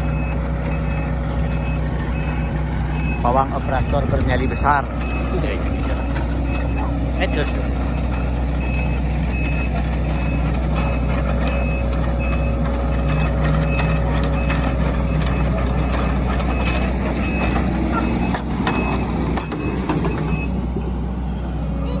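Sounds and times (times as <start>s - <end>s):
back-up alarm beeping: 0.0s - 21.0s
diesel engine running: 0.0s - 22.0s.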